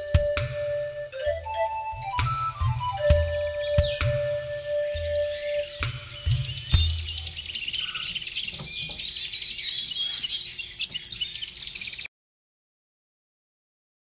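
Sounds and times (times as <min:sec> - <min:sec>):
faint music: 0:00.0 - 0:11.7
birds chirping: 0:00.0 - 0:12.1.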